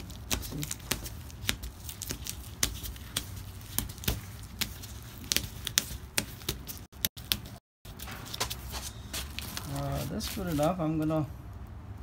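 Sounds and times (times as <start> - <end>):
plastic sheet and tape crinkling: 0.0 - 11.3.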